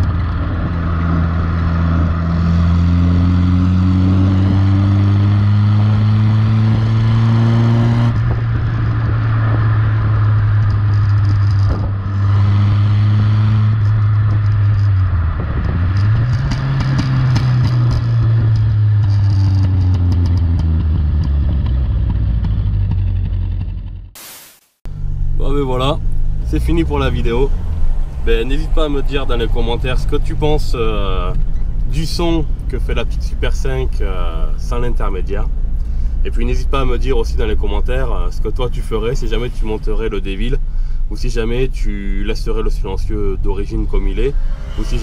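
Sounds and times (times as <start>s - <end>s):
car engine and exhaust accelerating: 0.0s - 24.2s, 24.9s - 45.0s.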